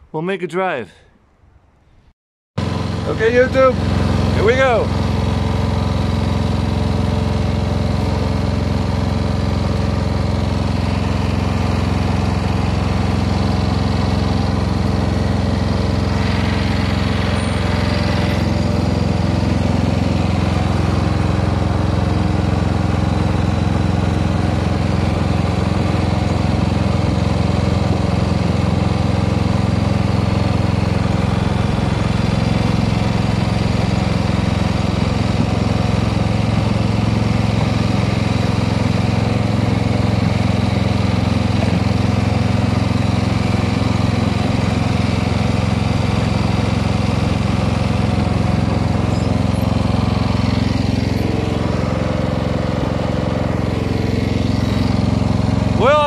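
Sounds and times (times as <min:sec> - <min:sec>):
lawn tractor engine running: 0:02.6 - 0:56.0
plow pushing through snow: 0:02.6 - 0:56.0.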